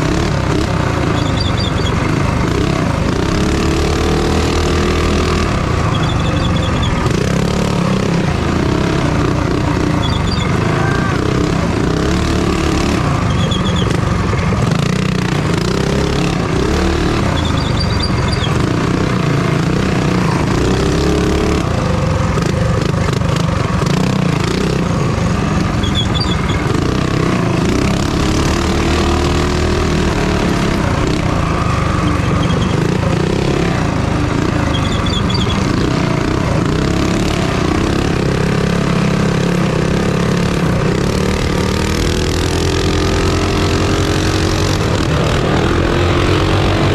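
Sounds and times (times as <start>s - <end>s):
minibike engine revving: 0.0s - 46.9s.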